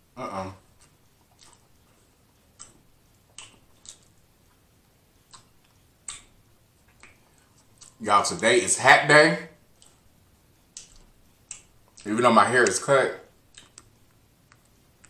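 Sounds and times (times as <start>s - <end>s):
person chewing food: 0.0s - 8.0s, 9.6s - 15.0s.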